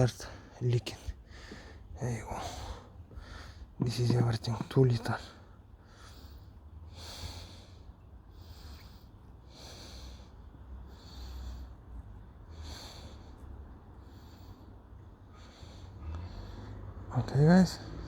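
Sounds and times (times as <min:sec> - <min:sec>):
man breathing: 0:00.0 - 0:17.1.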